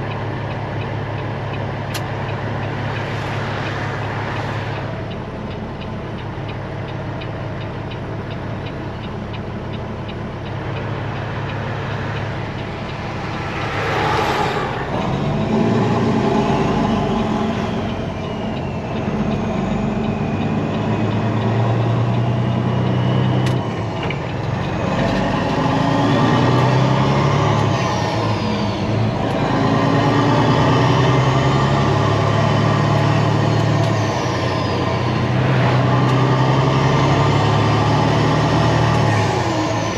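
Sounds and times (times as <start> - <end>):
truck diesel engine pulling: 0.0 - 39.9.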